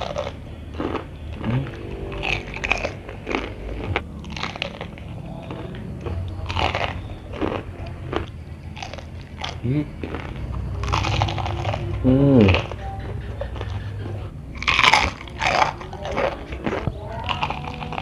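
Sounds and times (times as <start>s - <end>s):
crunchy fried chicken chewing: 0.0s - 18.0s.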